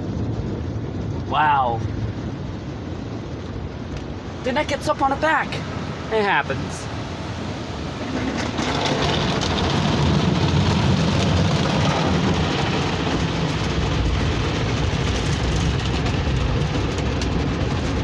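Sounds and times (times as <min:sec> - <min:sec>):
low machine rumble: 0:00.0 - 0:18.0.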